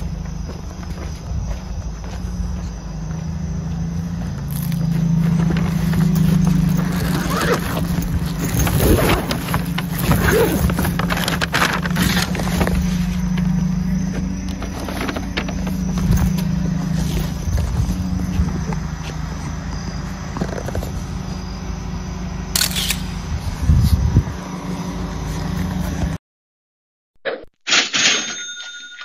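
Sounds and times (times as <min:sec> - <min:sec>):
engine and road noise: 0:00.0 - 0:26.2.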